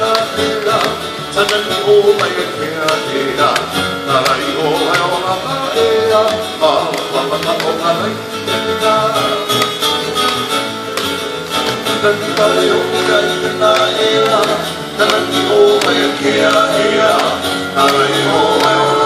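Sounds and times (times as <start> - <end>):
person singing: 0.0 - 9.7, 11.9 - 19.0
strummed guitars and ukulele: 0.0 - 19.0.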